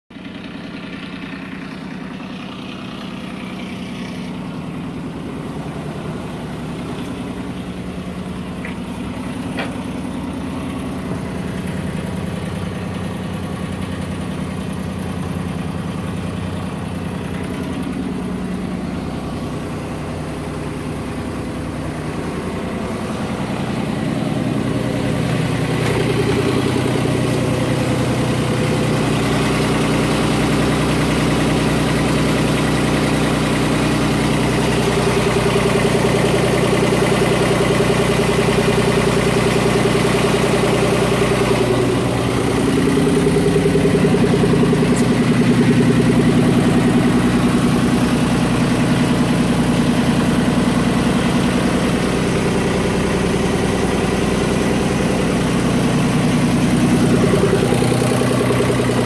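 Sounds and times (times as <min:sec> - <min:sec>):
marine diesel engine idling: 0:00.1 - 0:59.0.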